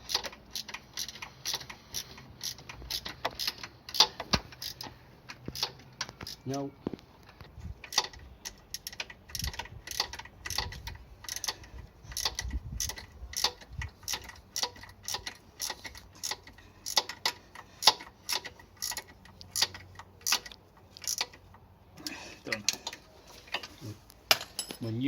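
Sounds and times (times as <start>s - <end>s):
ratchet spanner clicking: 0.0s - 6.4s, 7.8s - 21.5s.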